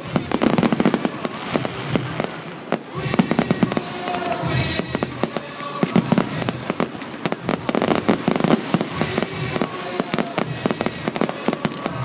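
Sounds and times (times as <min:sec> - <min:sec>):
fireworks banging and crackling: 0:00.0 - 0:12.0.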